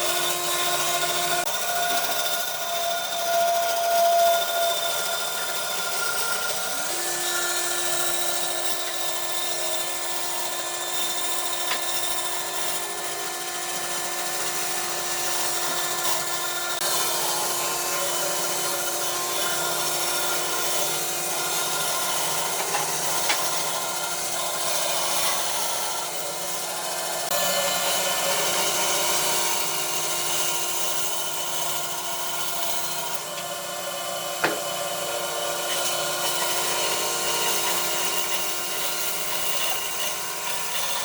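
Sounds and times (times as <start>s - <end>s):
power tool motor running: 0.0s - 41.0s
tool hissing through wood: 0.0s - 41.0s.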